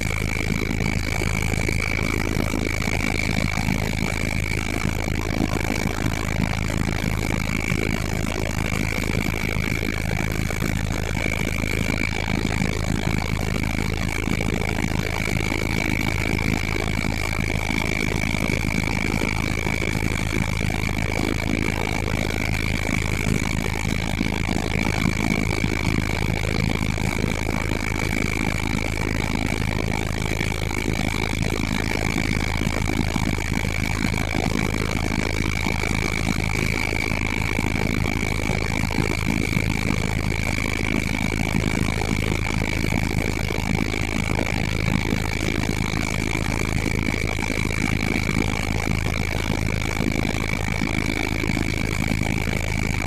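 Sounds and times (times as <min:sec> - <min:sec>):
helicopter rotor and engine drone: 0:00.0 - 0:53.0.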